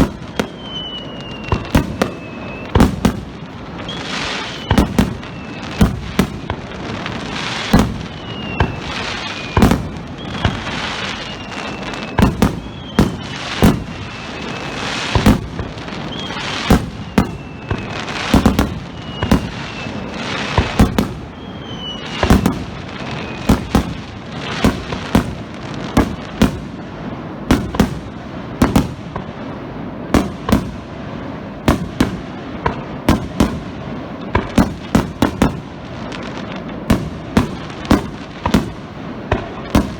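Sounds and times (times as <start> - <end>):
fireworks bursting: 0.0 - 39.9
fireworks whistling: 0.0 - 39.9.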